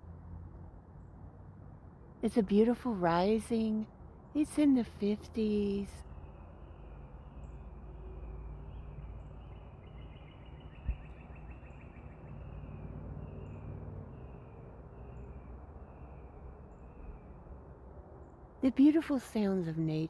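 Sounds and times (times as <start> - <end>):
birds chirping: 2.2 - 20.0.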